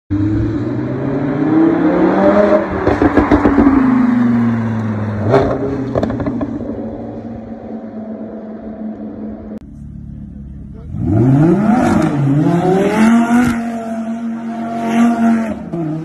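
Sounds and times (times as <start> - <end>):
car engine revving: 0.1 - 16.0.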